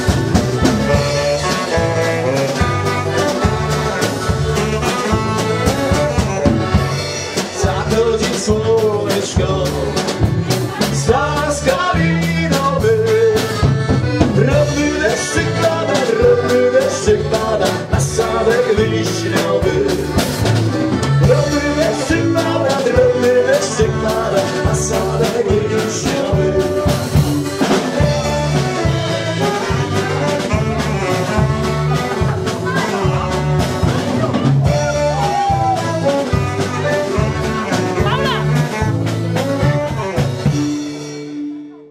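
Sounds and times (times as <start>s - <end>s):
live folk band playing: 0.0s - 41.9s
men singing: 0.6s - 20.5s, 21.2s - 38.6s.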